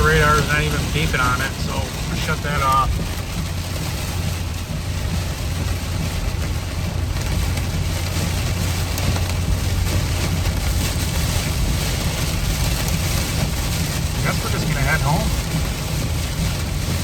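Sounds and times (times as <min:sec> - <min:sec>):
car engine hum: 0:00.0 - 0:17.0
road and air noise: 0:00.0 - 0:17.0.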